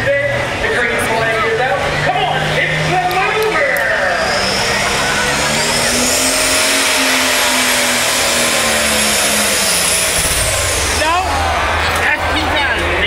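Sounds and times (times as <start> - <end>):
tractor engine at full throttle: 0.0 - 13.0
high-pitched whine: 2.1 - 12.6.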